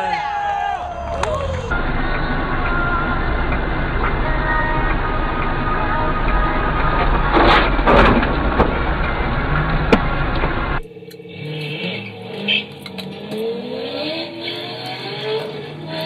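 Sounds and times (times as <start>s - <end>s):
car engines accelerating: 0.0s - 16.0s
dashcam road noise: 0.1s - 16.0s.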